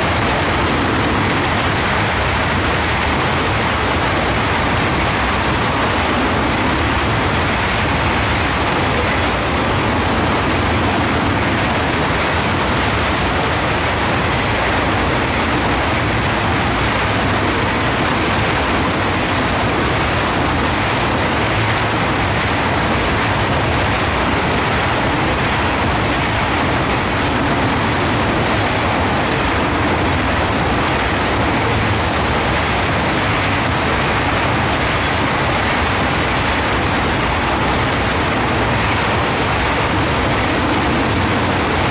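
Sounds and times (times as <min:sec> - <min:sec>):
train wheels clicking over rail joints: 0:00.0 - 0:41.9.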